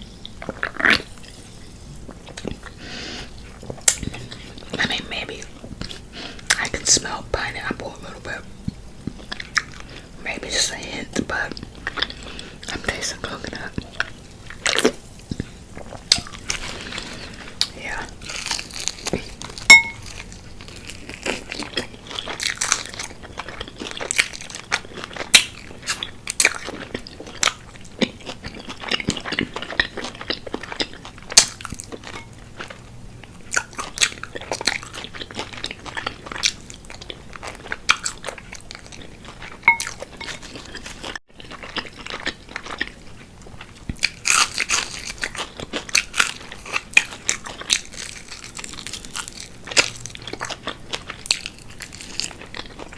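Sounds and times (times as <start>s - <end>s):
crunching fried chicken: 0.0s - 52.9s
chewing: 0.2s - 52.9s.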